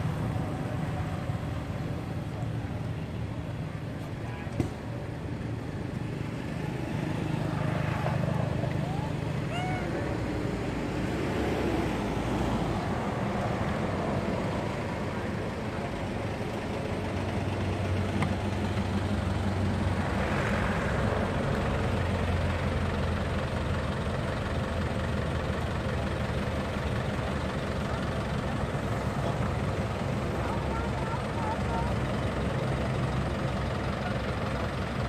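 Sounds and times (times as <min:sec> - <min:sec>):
road noise: 0:00.0 - 0:35.0
vehicle engine running: 0:00.0 - 0:35.0.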